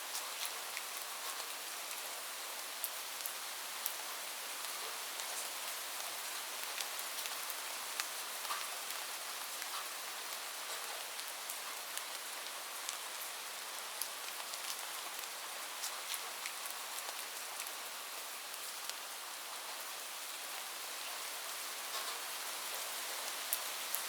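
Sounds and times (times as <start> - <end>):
rain on a roof: 0.0 - 24.0.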